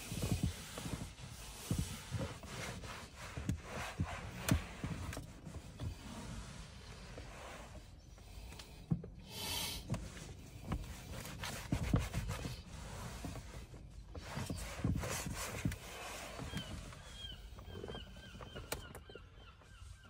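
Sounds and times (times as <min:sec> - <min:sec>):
cloth wiping plastic panel: 0:00.0 - 0:18.8.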